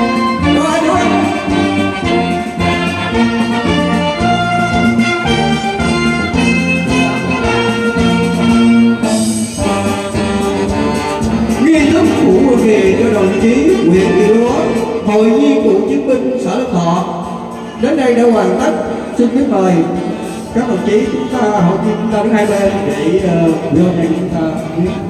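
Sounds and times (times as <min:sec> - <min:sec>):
brass band playing slow melody: 0:00.0 - 0:25.0.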